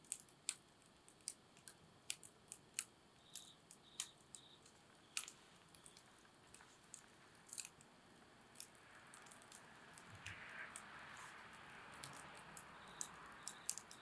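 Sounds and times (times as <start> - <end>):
campfire crackling: 0.0 - 14.0
faint steady hiss: 0.0 - 14.0.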